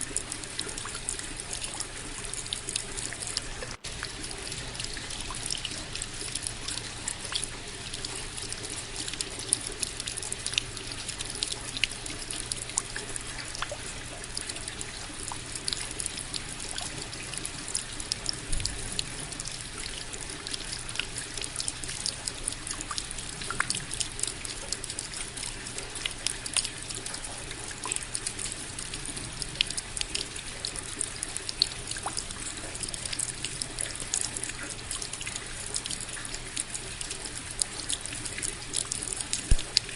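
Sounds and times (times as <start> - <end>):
close drips and splashes: 0.0 - 39.9.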